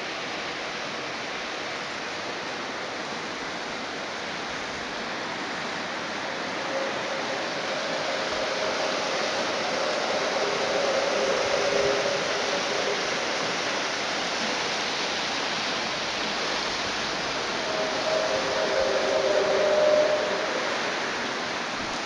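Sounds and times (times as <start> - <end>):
faint drawn-out droning tones: 0.0 - 22.0
steady rushing noise: 0.0 - 22.0.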